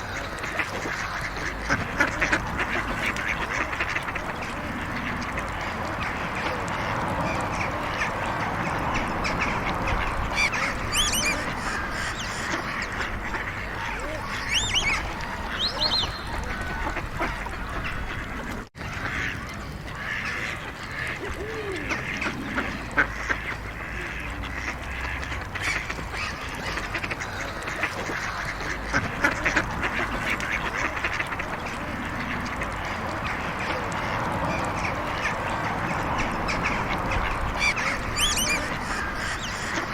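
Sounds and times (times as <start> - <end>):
ducks quacking: 0.0 - 39.9
road traffic rumble: 0.0 - 39.9.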